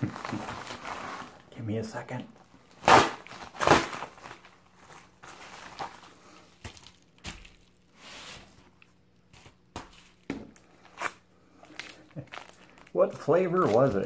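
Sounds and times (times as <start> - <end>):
bubble mailer and paper rustling: 0.0 - 1.5, 2.7 - 14.0.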